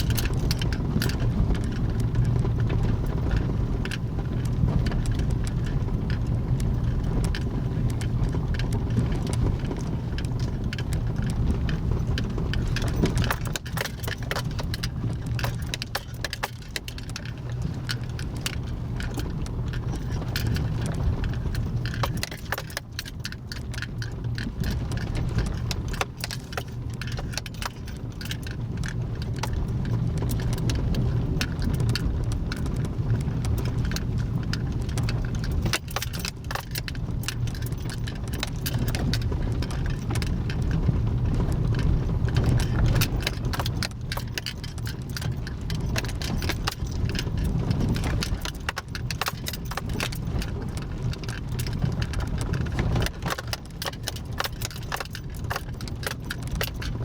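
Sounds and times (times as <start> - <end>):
small rattles and clicks: 0.0 - 57.0
vehicle rumble: 0.0 - 57.0.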